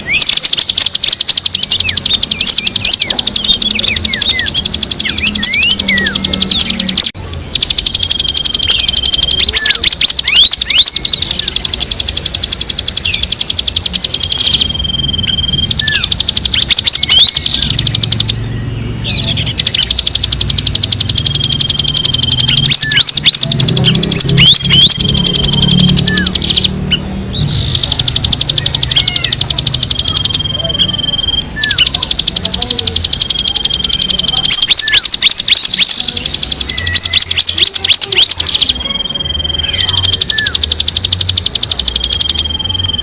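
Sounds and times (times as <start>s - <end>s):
songbird trilling and chirping: 0.0s - 43.0s.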